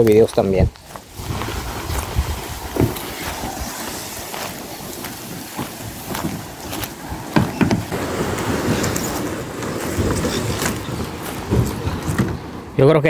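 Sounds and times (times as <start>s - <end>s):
leaves and twigs crunching underfoot: 0.0s - 12.3s
kayak hull scraping over leaves: 0.8s - 12.8s.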